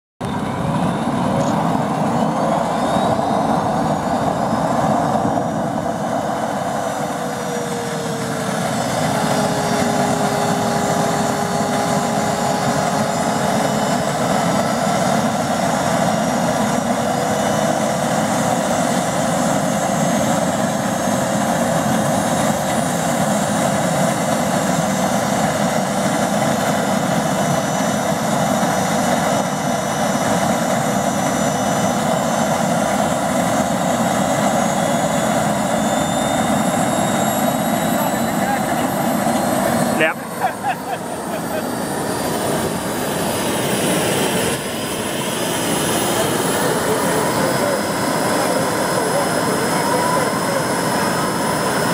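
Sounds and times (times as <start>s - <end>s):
model helicopter turbine whine: 0.2s - 51.9s.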